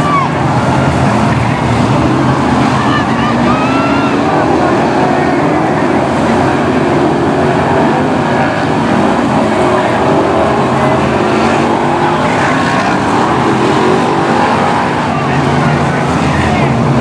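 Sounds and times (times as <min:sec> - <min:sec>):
stock car engines racing: 0:00.0 - 0:17.0.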